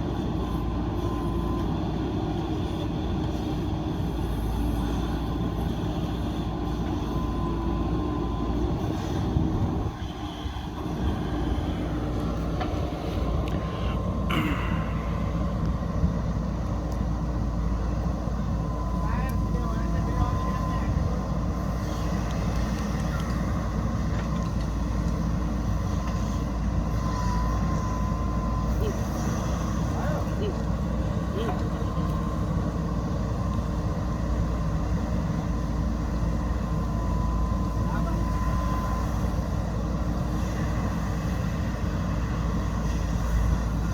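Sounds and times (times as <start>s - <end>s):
backhoe diesel engine running: 0.0s - 43.9s.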